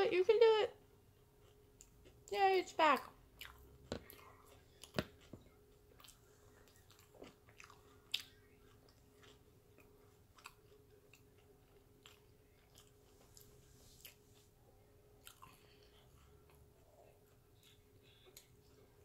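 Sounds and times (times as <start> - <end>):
faint steady hum: 0.0 - 19.0
person chewing: 1.1 - 2.3, 3.3 - 14.6, 15.2 - 18.7.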